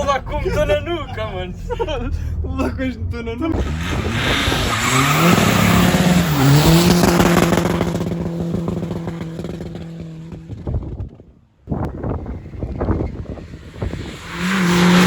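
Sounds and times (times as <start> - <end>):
diesel engine accelerating: 0.0 - 15.0.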